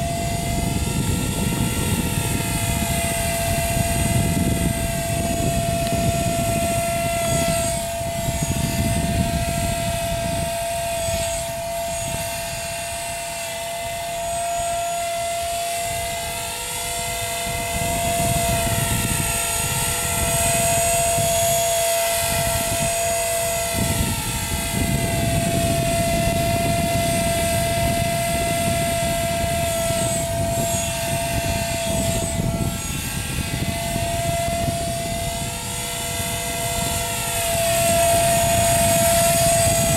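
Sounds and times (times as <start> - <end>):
high motor whine: 0.0 - 39.9
rotor blades whirring: 0.0 - 39.9.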